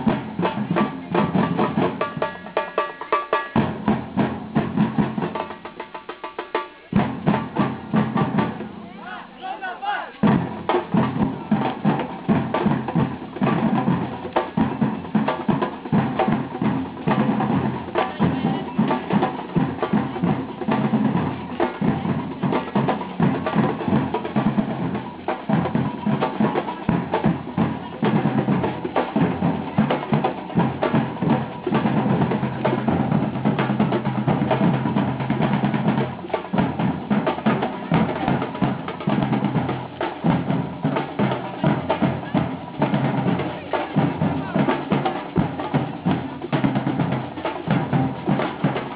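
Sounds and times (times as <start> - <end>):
drums playing steady beat: 0.0 - 48.9.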